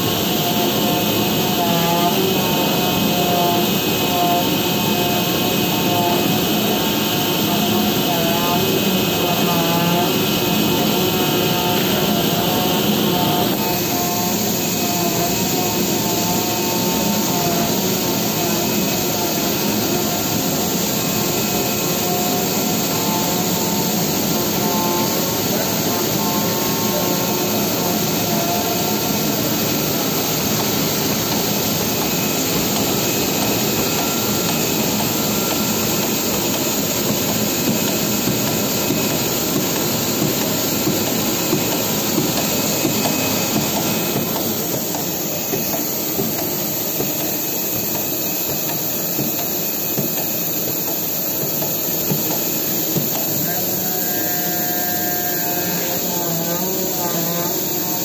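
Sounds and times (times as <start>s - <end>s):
cutting machine running: 0.0s - 58.0s.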